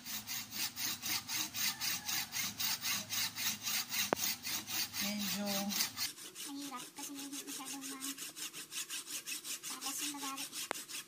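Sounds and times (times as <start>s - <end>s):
hand saw rasping through shell: 0.0s - 11.0s.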